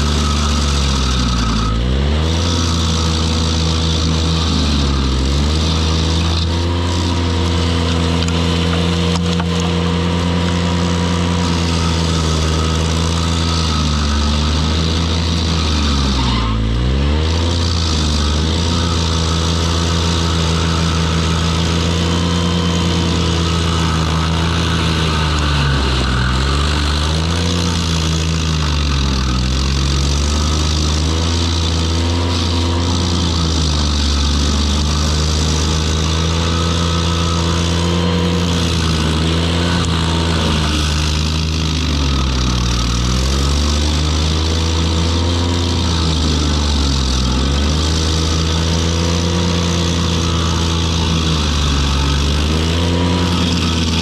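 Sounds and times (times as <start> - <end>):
stump grinder cutting: 0.0 - 54.0
tractor engine running hard: 0.0 - 54.0.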